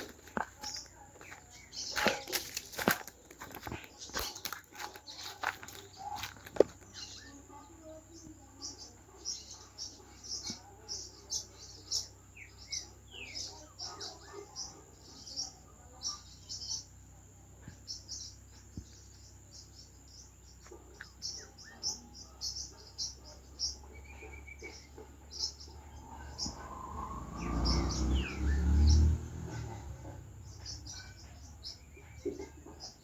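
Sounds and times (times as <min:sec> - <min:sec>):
birds and insects chirping: 0:00.0 - 0:33.0.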